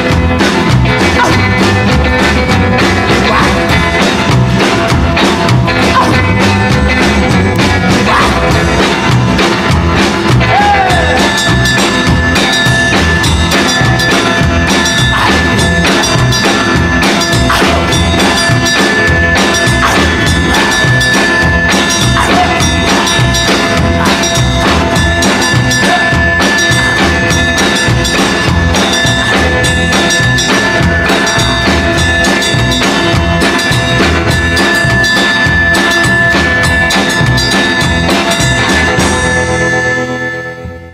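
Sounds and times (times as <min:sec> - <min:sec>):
drum kit steady beat: 0:00.0 - 0:40.9
rockabilly band music: 0:00.0 - 0:40.9.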